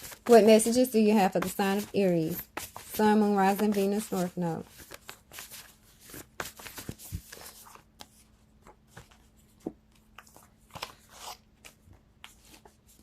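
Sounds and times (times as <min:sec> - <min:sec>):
cards being shuffled: 0:01.4 - 0:13.0.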